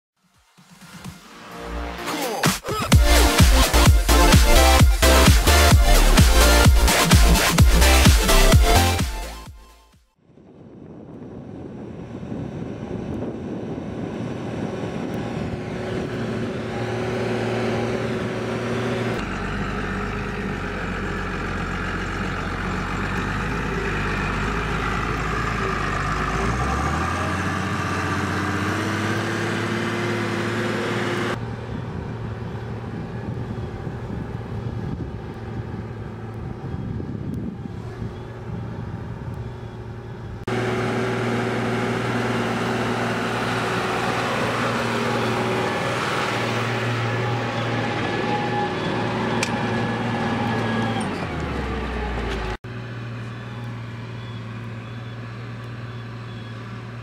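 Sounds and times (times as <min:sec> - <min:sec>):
tractor diesel engine under load: 0:02.7 - 0:09.5, 0:11.3 - 0:57.0.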